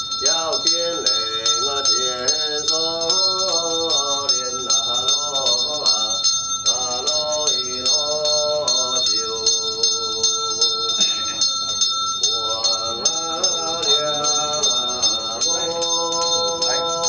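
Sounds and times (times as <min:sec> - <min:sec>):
hand bell ringing rapidly: 0:00.0 - 0:17.0
person chanting: 0:00.2 - 0:17.0.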